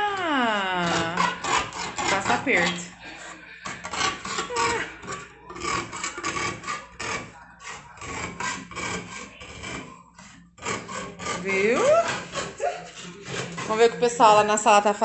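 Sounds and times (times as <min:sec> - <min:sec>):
knife scraping metal can lid: 0:00.7 - 0:15.0.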